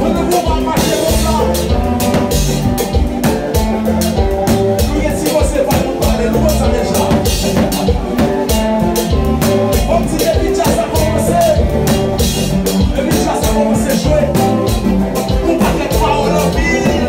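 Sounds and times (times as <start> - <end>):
band music with drum beat: 0.0 - 17.0.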